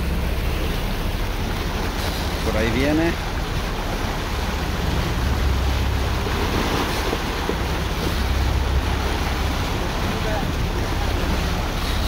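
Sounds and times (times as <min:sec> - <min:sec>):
low rumble: 0:00.0 - 0:12.0
sea water washing around boat: 0:00.0 - 0:12.0.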